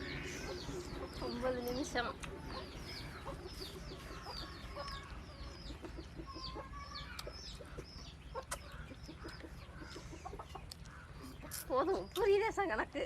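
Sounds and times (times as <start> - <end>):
chicks peeping: 0.0 - 12.9.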